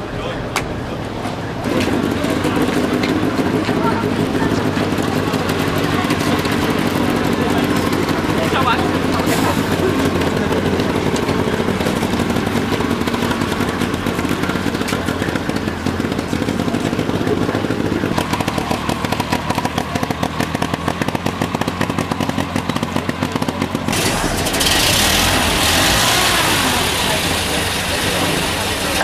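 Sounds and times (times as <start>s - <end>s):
tractor engine knocking: 0.5s - 29.0s.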